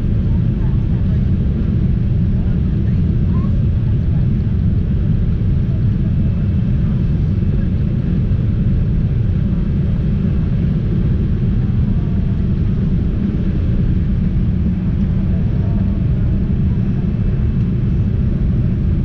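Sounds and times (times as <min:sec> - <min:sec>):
airliner engine and airflow rumble: 0:00.0 - 0:19.0.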